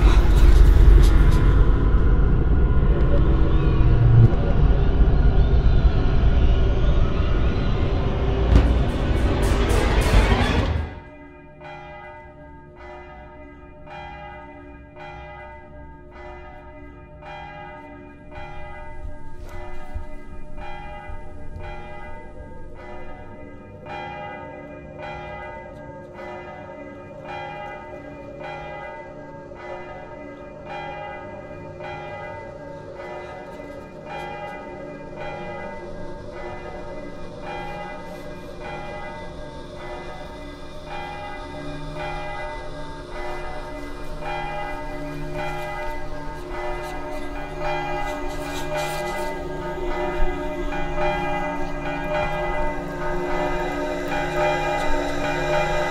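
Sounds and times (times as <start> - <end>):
bell tolling: 8.2 - 55.9.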